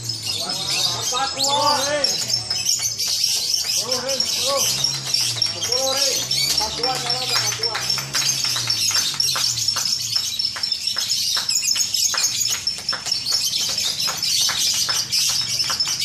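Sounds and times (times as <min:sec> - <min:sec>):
lovebirds chirping and trilling: 0:00.0 - 0:16.0.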